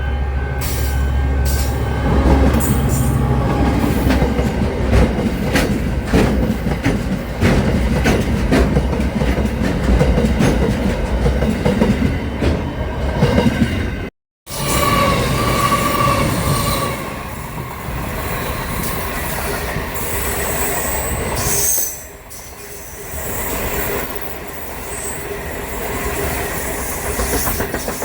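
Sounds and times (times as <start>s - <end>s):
train running on rails: 0.0s - 28.0s.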